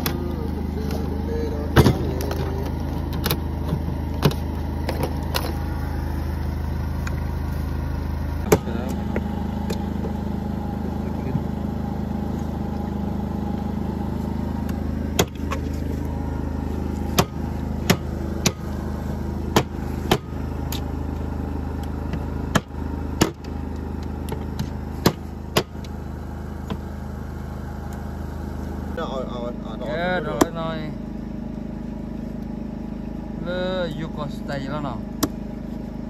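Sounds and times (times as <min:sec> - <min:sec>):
engine droning: 0:00.0 - 0:36.0.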